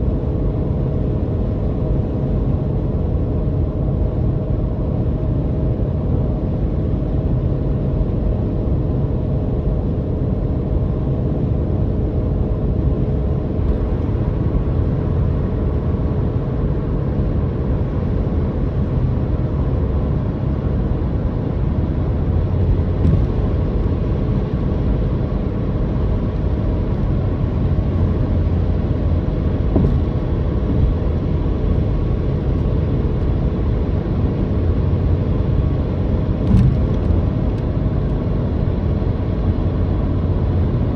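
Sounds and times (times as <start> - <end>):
car engine droning: 0.0 - 40.9
road rumble: 0.0 - 40.9.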